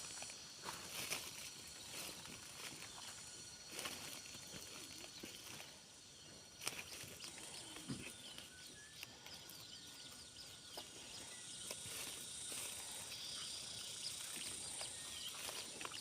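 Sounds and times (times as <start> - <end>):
small birds chirping: 0.0 - 16.0
steady insect hiss: 0.0 - 16.0.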